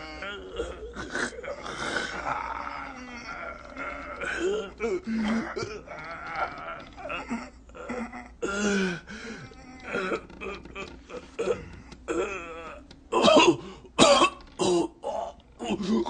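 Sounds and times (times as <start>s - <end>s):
men grunting with exertion: 0.0s - 13.3s.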